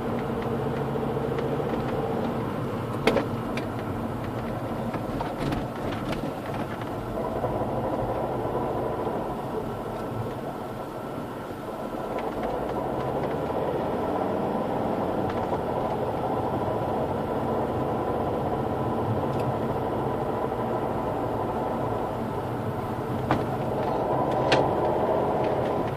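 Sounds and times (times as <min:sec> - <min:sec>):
diesel engine running: 0:00.0 - 0:25.9
strange engine noise: 0:00.0 - 0:25.9.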